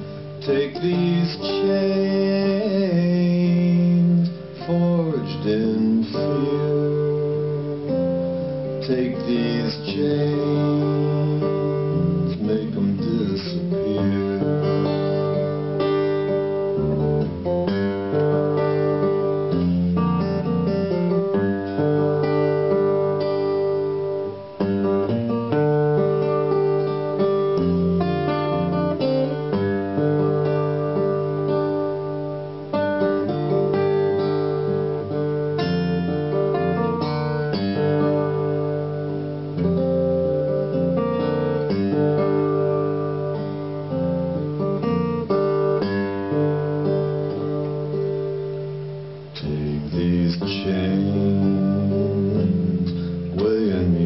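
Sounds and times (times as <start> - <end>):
solo acoustic guitar: 0.0 - 54.0.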